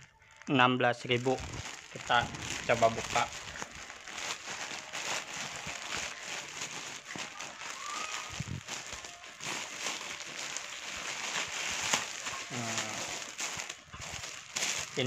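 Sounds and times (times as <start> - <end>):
plastic mailer bag crinkling: 0.0 - 15.0.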